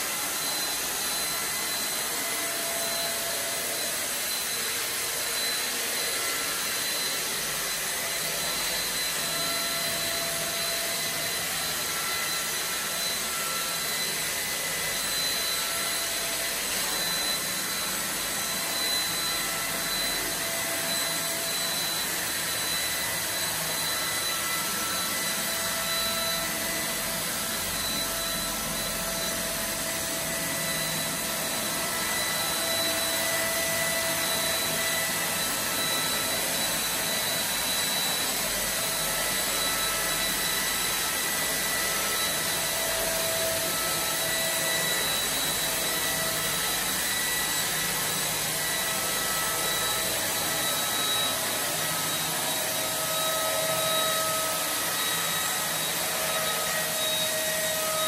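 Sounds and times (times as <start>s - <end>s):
robot vacuum fan whining: 0.0s - 58.0s.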